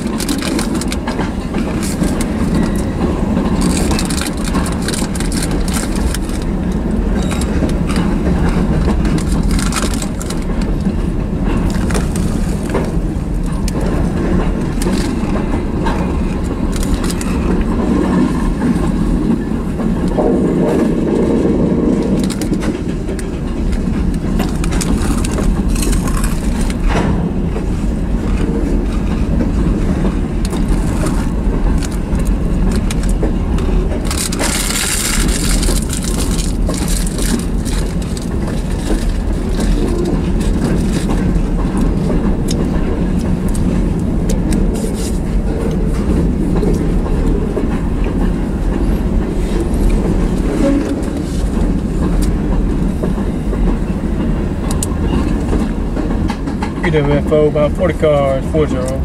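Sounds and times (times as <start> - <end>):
train wheels rumbling on rails: 0.0 - 59.0
wheels clicking over rail joints: 0.0 - 59.0.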